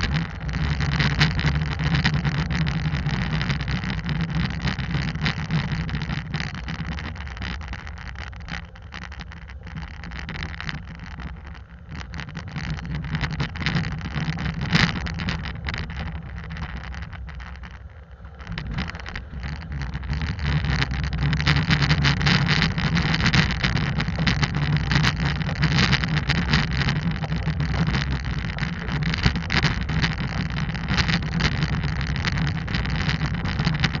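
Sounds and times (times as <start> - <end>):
engine and tyre rumble: 0.0 - 34.0
stones clicking and crackling: 0.0 - 34.0.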